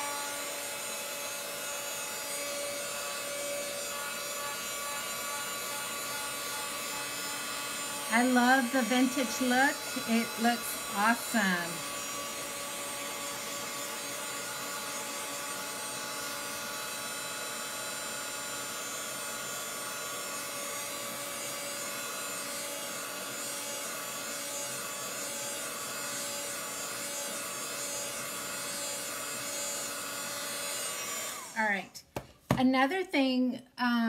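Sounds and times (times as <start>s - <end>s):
hot-air blower running: 0.0s - 31.9s.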